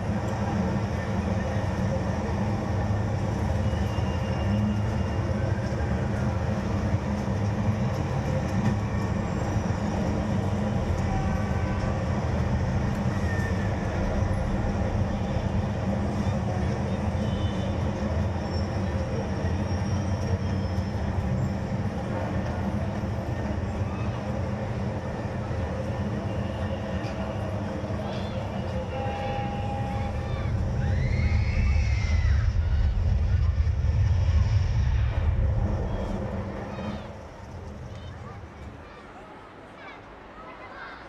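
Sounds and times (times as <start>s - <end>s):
moving vehicle rumble: 0.0s - 38.7s.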